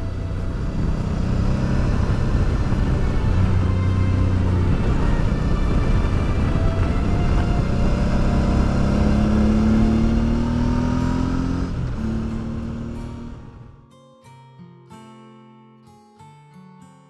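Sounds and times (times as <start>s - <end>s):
motorcycle engine accelerating: 0.0s - 13.8s
wind rush: 0.0s - 13.8s.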